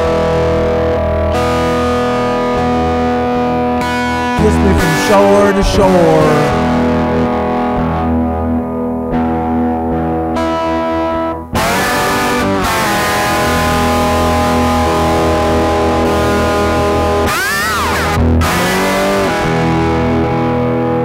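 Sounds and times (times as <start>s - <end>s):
electric guitar chords ringing: 0.0s - 21.0s.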